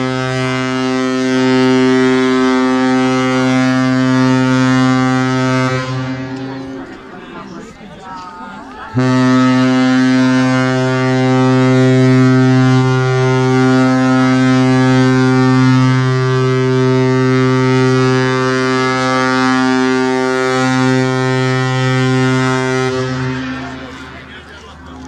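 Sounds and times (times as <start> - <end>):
ship's horn blast: 0.0 - 7.6, 8.7 - 25.0.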